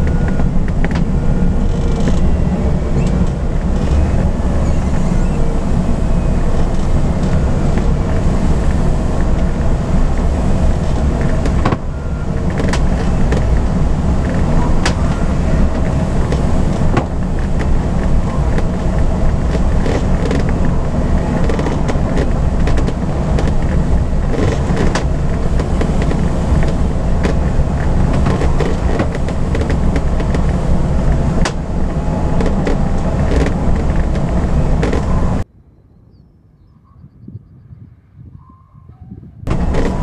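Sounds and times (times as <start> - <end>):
air rushing around cockpit: 0.0 - 35.5, 39.4 - 40.0
open-air background: 0.0 - 40.0.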